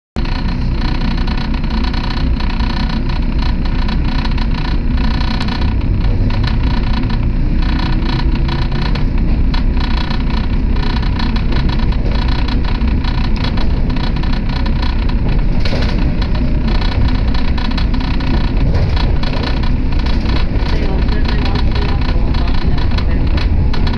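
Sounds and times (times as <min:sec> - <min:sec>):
electric train rumble: 0:00.2 - 0:23.9.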